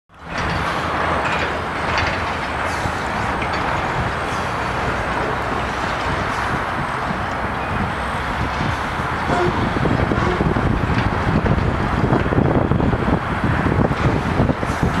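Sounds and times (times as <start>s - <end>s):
outdoor roar with low rumble: 0.1s - 15.0s.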